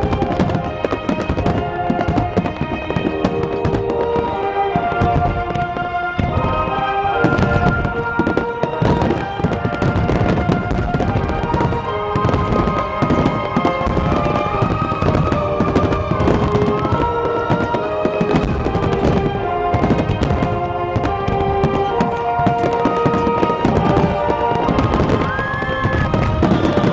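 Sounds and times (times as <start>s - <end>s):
fireworks bursting and crackling: 0.0s - 26.9s
music with long held notes: 0.0s - 26.9s.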